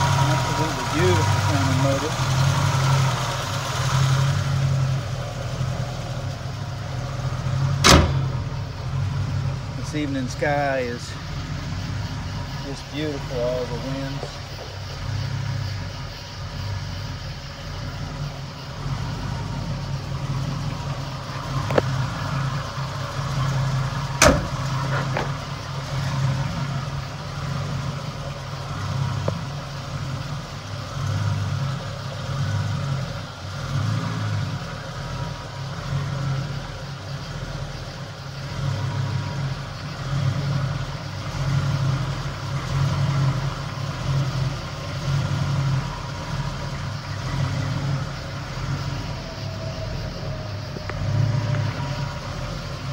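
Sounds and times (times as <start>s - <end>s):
pickup truck engine idling: 0.0s - 52.9s.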